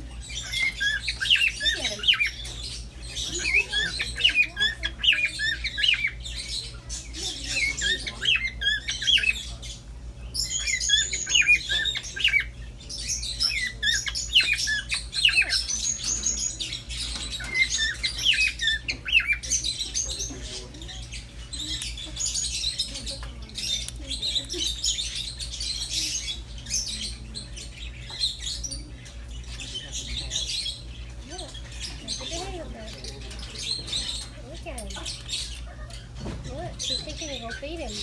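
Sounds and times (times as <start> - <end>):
parrots chirping and squawking: 0.0 - 38.0.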